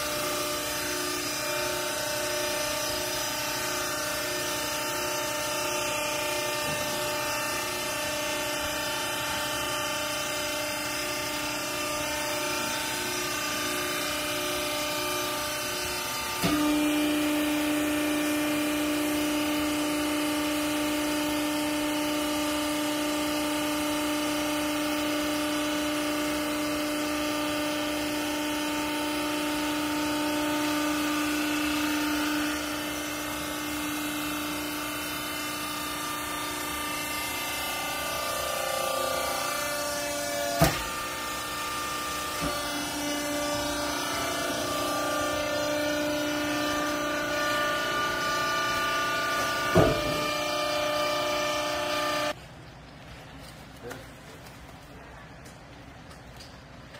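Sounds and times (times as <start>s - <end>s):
hydraulic baler motor humming: 0.0s - 52.4s.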